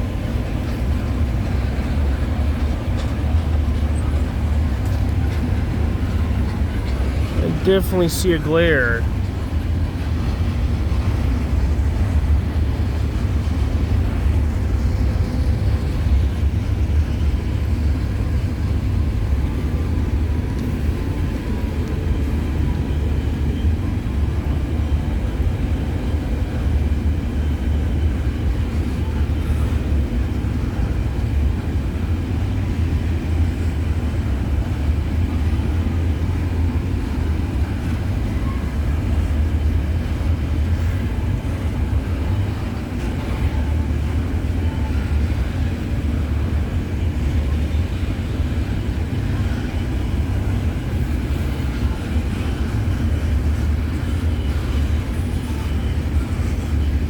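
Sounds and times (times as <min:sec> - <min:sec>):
diesel locomotives rumbling: 0:00.0 - 0:57.0.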